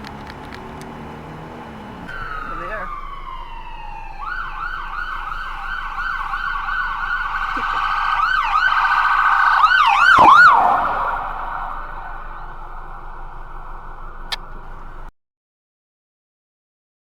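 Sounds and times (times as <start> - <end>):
emergency siren yelping: 0.0 - 15.1.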